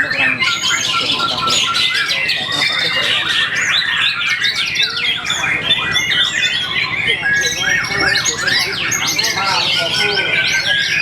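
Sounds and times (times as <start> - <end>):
songbird singing varied chirps: 0.0 - 11.0.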